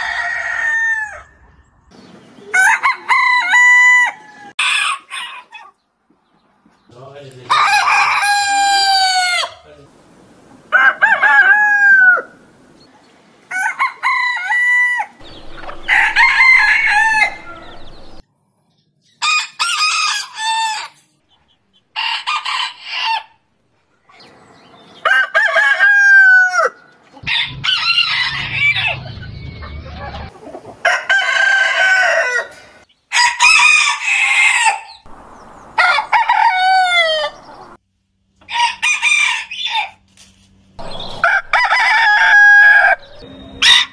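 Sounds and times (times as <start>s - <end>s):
roosters crowing: 0.0s - 1.6s, 2.2s - 5.8s, 7.5s - 9.6s, 10.6s - 12.6s, 13.4s - 18.2s, 19.2s - 21.0s, 21.9s - 23.4s, 24.6s - 37.8s, 38.4s - 40.1s, 40.8s - 43.9s.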